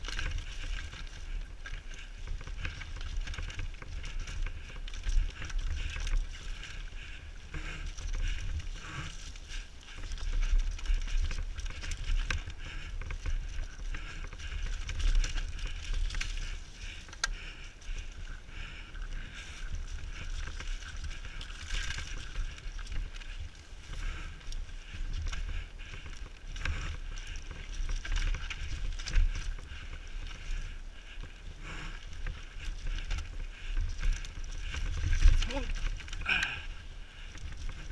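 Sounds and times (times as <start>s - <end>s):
bike rattling over rocks: 0.0s - 37.9s.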